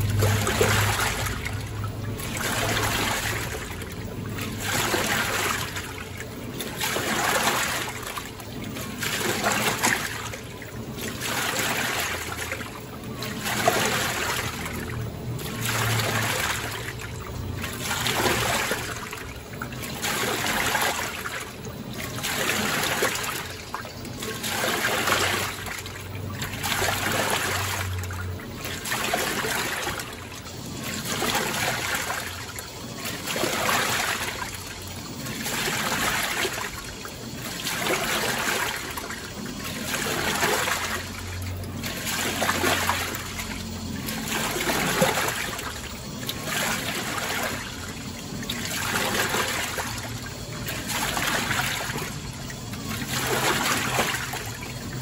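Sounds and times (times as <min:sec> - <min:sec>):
washing machine water sloshing: 0:00.0 - 0:55.0.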